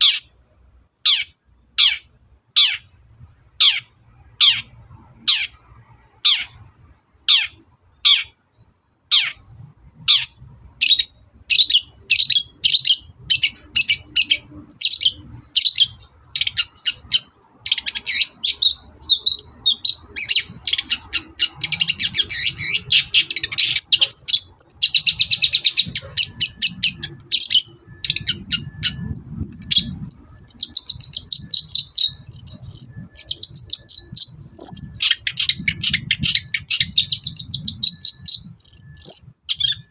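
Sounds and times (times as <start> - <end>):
bird singing loudly: 0.0 - 0.4, 1.0 - 3.0, 3.6 - 39.9
downward-sweeping bird calls: 0.0 - 0.4, 1.0 - 39.9
fast chattering bird song: 1.0 - 39.9.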